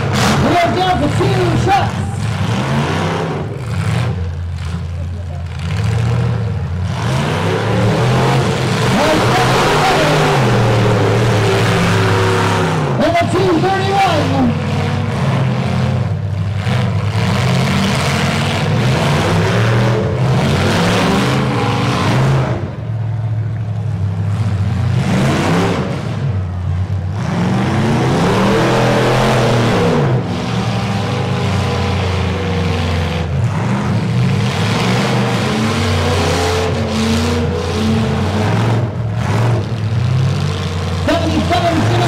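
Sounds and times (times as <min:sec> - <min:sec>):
truck engines revving: 0:00.0 - 0:42.0.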